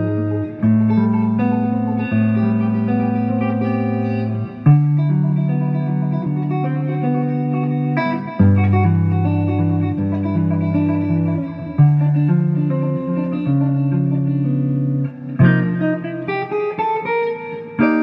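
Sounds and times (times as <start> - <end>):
clean electric guitar chords: 0.0 - 18.0.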